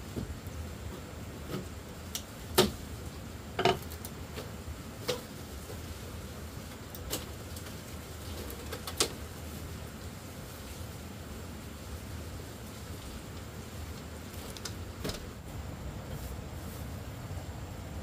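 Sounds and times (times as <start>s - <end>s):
background hiss and hum: 0.0s - 18.0s.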